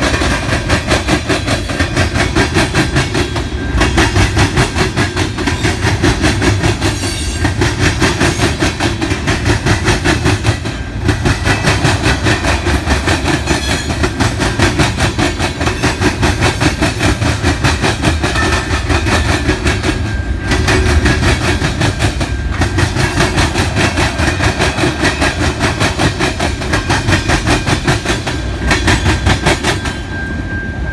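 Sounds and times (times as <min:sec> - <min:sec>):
train wheels clicking over rail joints: 0:00.0 - 0:30.9.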